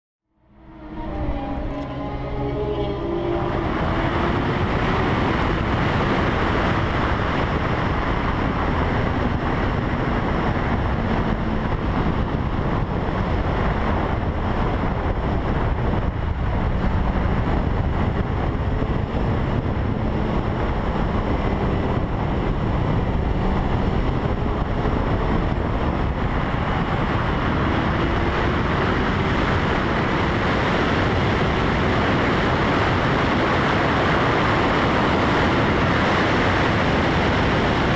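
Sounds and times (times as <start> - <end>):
wind rushing over microphone: 0.4 - 37.9.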